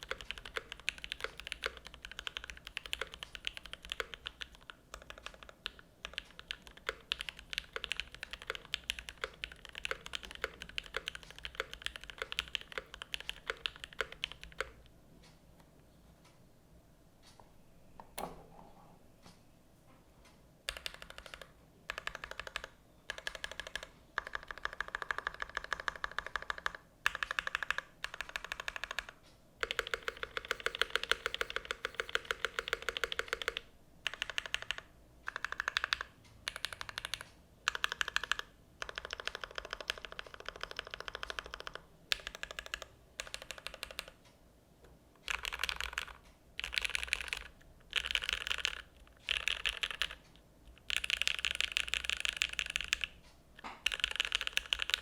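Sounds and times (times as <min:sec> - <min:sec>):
mechanical keyboard typing: 0:00.0 - 0:14.9, 0:20.7 - 0:44.2, 0:45.2 - 0:55.0.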